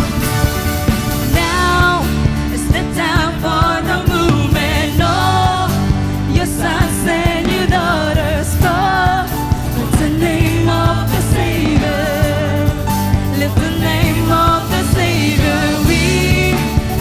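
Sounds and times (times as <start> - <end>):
drum beat: 0.0 - 17.0
lead singer: 0.0 - 17.0
steady bass: 0.0 - 17.0
worship band playing: 0.0 - 17.0.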